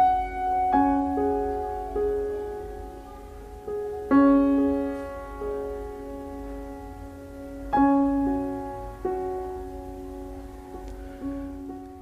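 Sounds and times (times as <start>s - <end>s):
slow soft piano music: 0.0s - 12.0s.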